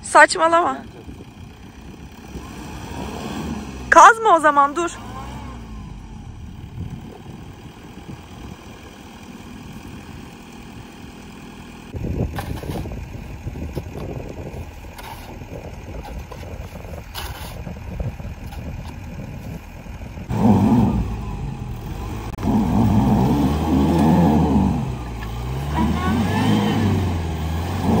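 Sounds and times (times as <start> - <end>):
truck engine straining: 0.0 - 28.0.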